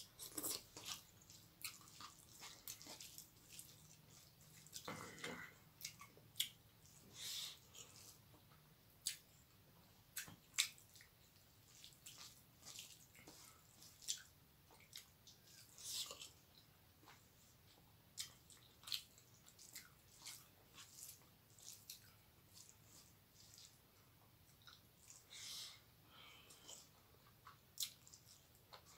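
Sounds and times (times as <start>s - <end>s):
chewing: 0.0s - 25.3s, 26.4s - 28.9s.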